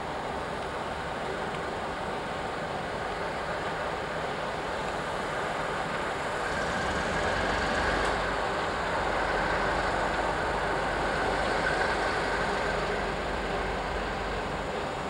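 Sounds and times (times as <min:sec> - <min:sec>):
faint steady whine: 0:00.0 - 0:15.0
locomotive and wheels rumbling: 0:00.0 - 0:15.0.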